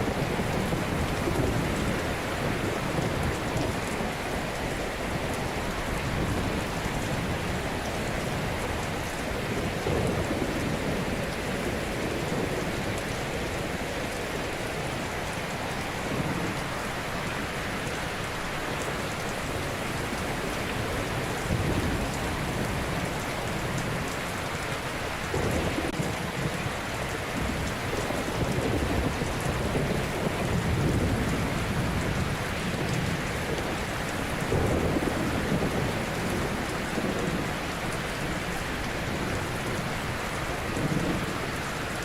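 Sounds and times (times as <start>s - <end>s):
waves washing on shore: 0.0s - 42.0s.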